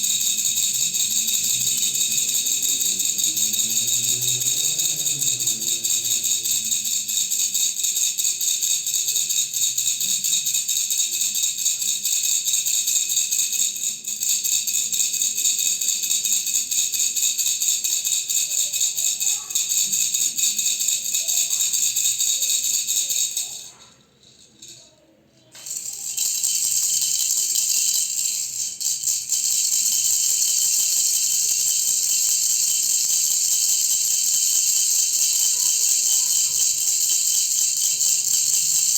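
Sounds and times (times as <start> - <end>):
baby's toy rattle shaking: 0.0 - 38.9.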